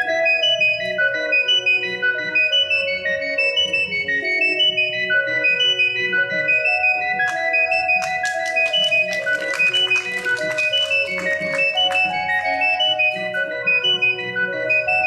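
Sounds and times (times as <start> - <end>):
organ-like keyboard melody: 0.0 - 15.0.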